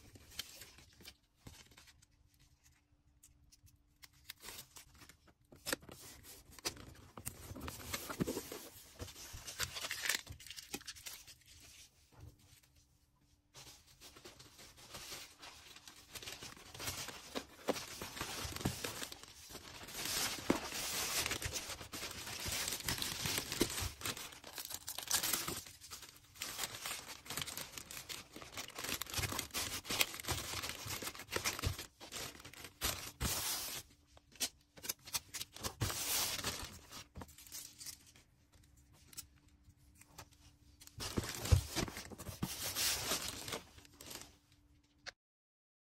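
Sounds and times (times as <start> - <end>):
packing materials rustling and tearing: 4.0 - 11.9, 13.6 - 39.3, 39.9 - 44.5.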